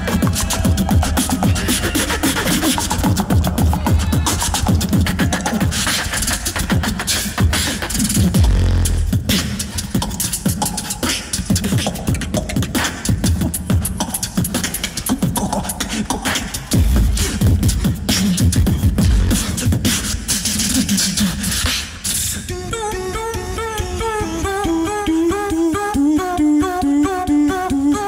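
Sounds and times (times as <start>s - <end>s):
beatboxing vocal drums and bass: 0.0s - 28.0s.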